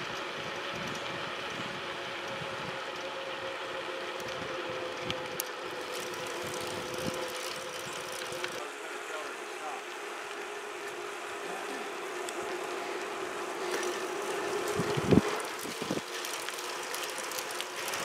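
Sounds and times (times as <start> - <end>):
bicycle rolling noise: 0.0 - 18.0
faint steady hum: 0.0 - 18.0.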